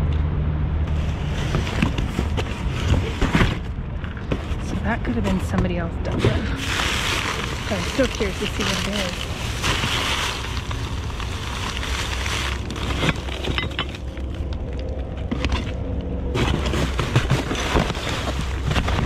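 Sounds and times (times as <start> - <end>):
steady low rumble: 0.0 - 19.0
rustling of discarded items: 0.9 - 19.0.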